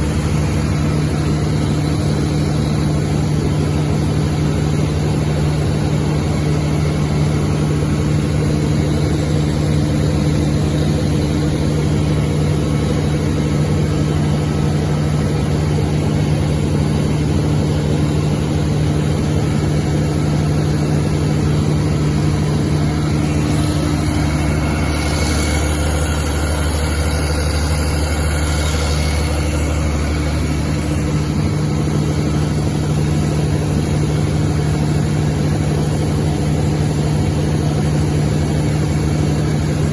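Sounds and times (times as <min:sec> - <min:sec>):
deeper hum: 0:00.0 - 0:39.9
diesel generator drone: 0:00.0 - 0:39.9.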